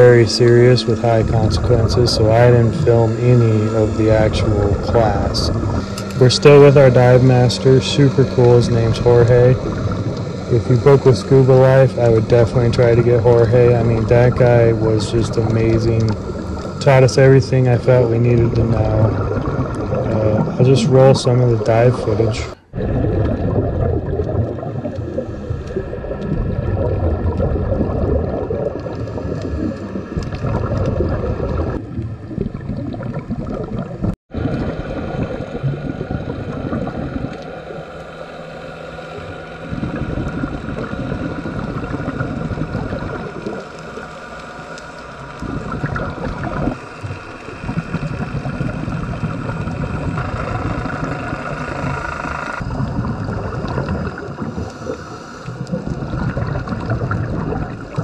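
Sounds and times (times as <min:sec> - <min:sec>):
regulator bubbles gurgling: 0:00.0 - 0:58.0
steady underwater hum: 0:00.0 - 0:58.0.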